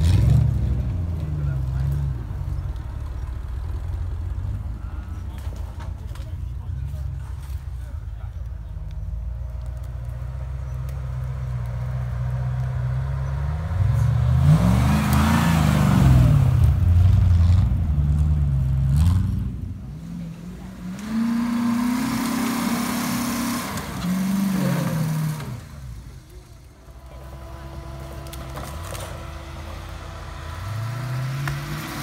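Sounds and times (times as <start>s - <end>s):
off-road engines revving: 0.0s - 32.0s.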